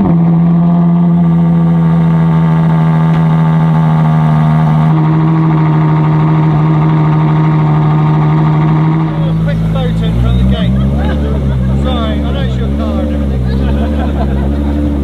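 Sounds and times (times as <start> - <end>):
car engine revving loudly: 0.0 - 15.0.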